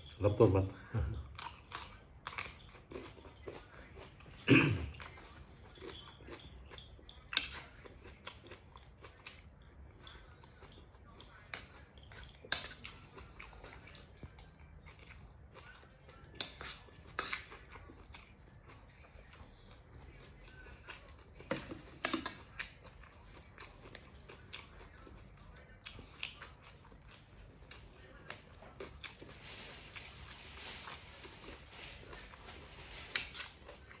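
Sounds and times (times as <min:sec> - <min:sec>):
person chewing crunchy vegetables: 0:00.9 - 0:34.0.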